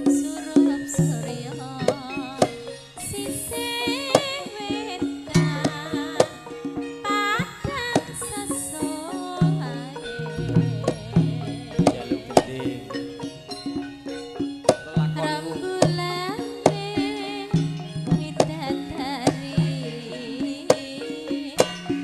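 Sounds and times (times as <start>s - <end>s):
hand drum strokes: 0.0s - 22.0s
sustained metallophone tones: 0.0s - 22.0s
woman singing wavering melody: 0.0s - 22.0s.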